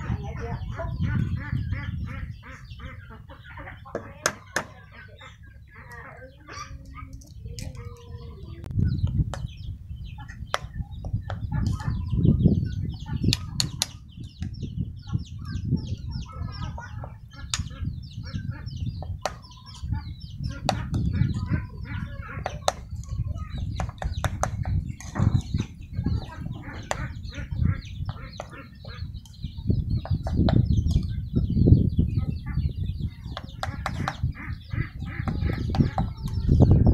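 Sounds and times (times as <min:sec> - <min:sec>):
chickens clucking: 0:00.0 - 0:36.9.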